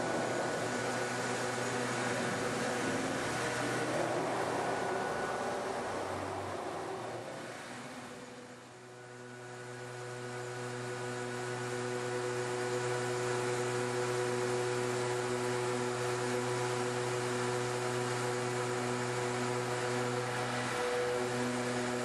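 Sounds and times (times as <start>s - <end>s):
stone engraving machine motor hum: 0.0s - 5.5s, 8.8s - 22.0s.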